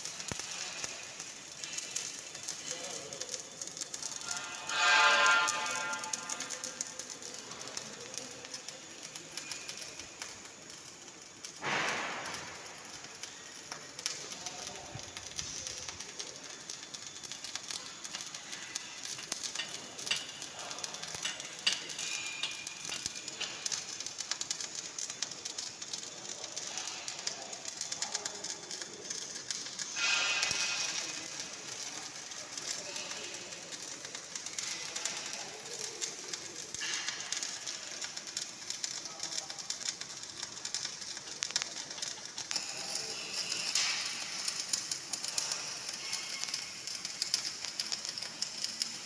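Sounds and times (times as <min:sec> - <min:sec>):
welding arc crackling: 0:00.0 - 0:49.0.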